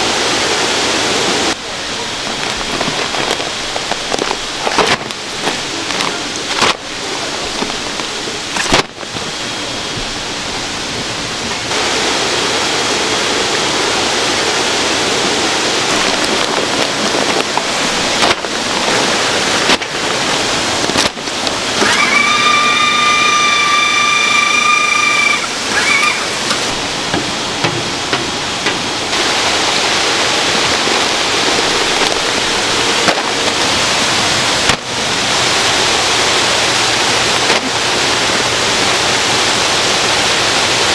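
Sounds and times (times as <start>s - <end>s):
water gushing from a pipe: 0.0s - 40.9s.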